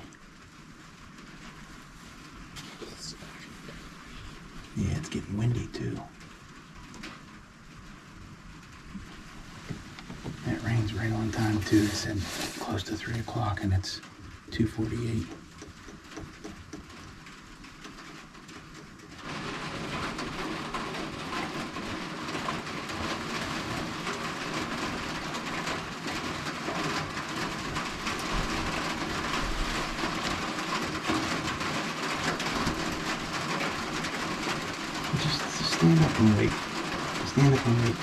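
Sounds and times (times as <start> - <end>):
rain pattering: 0.0 - 38.0.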